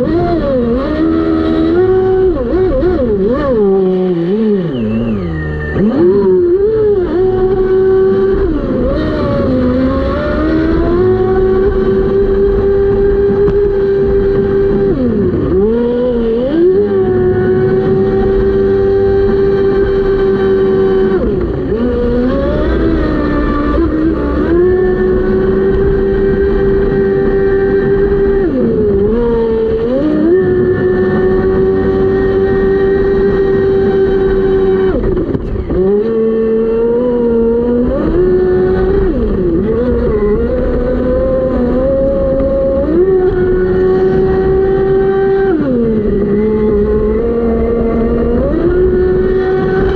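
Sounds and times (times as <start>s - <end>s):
electric motor whining: 0.0s - 49.9s.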